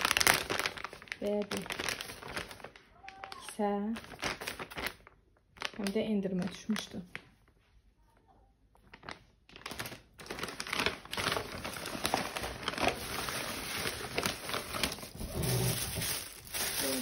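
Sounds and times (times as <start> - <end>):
plastic bag crinkling and rustling: 0.0 - 7.7, 8.7 - 17.0.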